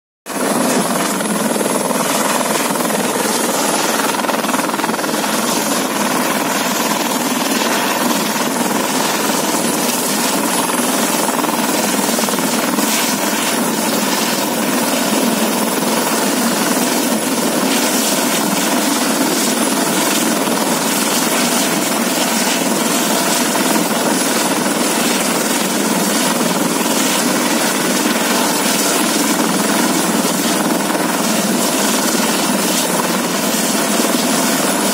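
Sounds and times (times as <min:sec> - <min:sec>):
helicopter running: 0:00.3 - 0:34.9.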